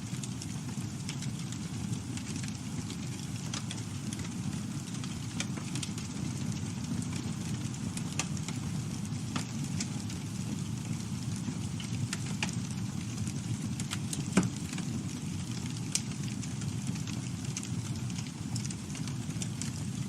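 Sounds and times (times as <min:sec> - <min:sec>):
crackles and pops of burning wood: 0:00.0 - 0:20.0
low rumble of flames: 0:00.0 - 0:20.0.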